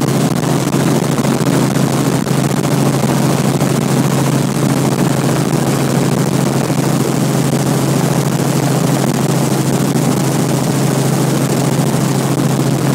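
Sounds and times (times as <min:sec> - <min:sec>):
helicopter engine and rotor: 0:00.0 - 0:12.9.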